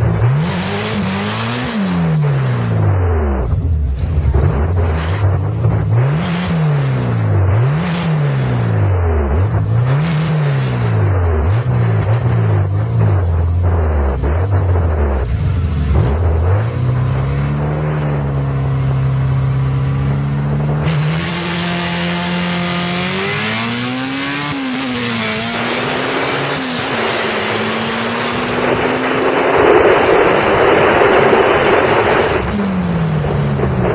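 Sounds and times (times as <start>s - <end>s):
race car engine accelerating: 0.0s - 33.9s
wind and road rush: 0.0s - 33.9s.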